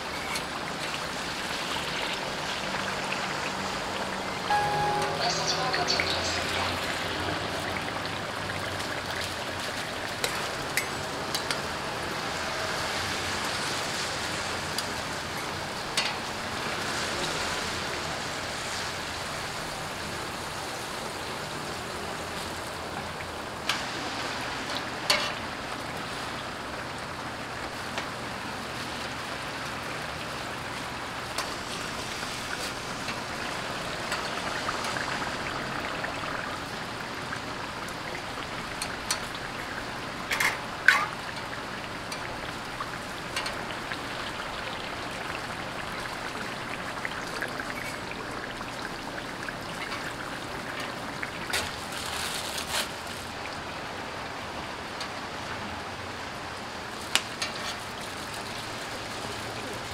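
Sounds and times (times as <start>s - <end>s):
food sizzling in oil: 0.0s - 53.4s.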